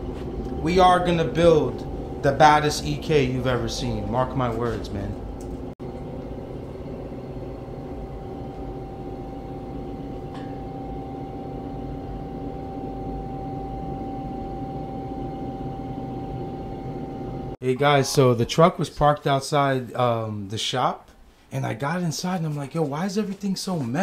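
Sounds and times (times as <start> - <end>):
ventilation fans humming and whining: 0.0 - 24.0.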